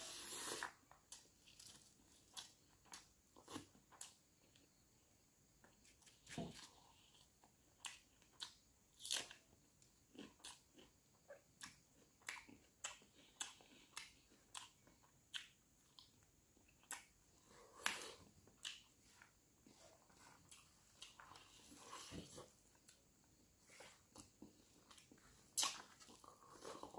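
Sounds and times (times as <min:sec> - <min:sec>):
person chewing and crunching: 0:00.2 - 0:04.6, 0:05.8 - 0:26.9.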